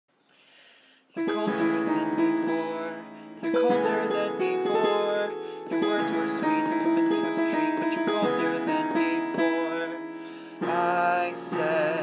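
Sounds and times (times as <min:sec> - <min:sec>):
electronic keyboard playing chords: 0:01.2 - 0:12.0.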